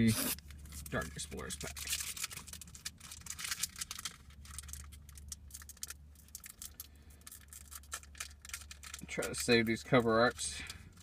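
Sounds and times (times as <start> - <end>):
low steady hum: 0.0 - 11.0
foil wrapper crinkling: 0.3 - 10.0.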